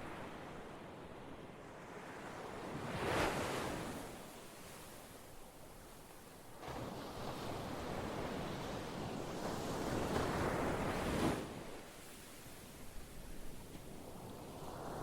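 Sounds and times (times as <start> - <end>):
ocean waves on shore: 0.0 - 15.0.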